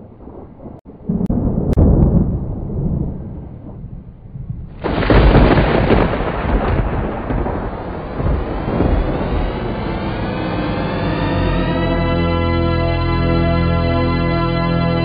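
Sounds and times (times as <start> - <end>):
thunder cracks: 0.0 - 13.0
thunder rumbling: 0.0 - 15.0.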